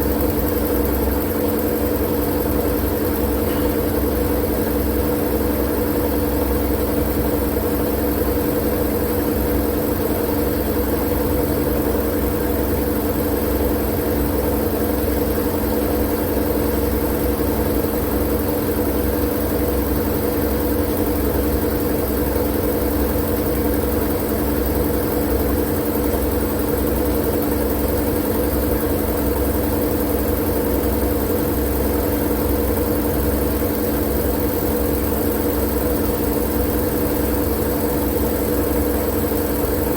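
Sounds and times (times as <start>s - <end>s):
steady machine drone: 0.0s - 39.9s.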